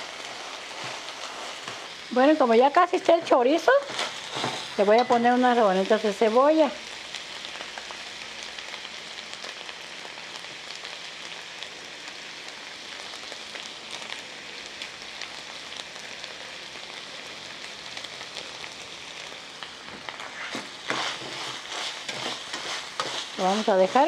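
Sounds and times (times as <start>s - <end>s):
sausage sizzling in hot oil: 0.0s - 24.0s.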